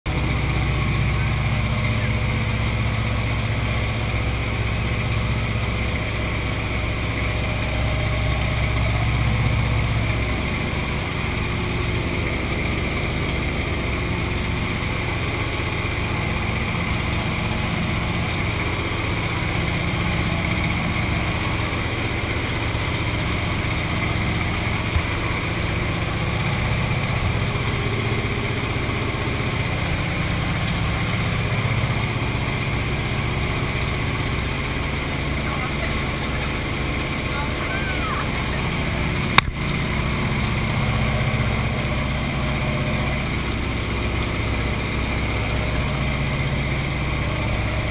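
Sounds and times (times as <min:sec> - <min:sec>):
aircraft engine droning: 0:00.1 - 0:47.9.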